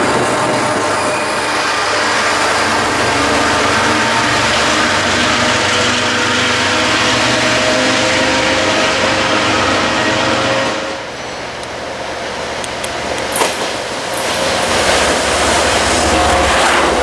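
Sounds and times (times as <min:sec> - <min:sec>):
diesel locomotive engine drone: 0:00.0 - 0:17.0
train wheels rolling on rails: 0:00.0 - 0:17.0.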